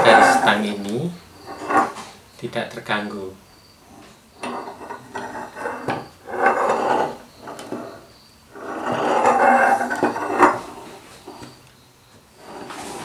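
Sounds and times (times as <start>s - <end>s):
pipe bender creaking rub: 0.0s - 2.2s, 3.9s - 11.6s, 12.4s - 13.0s.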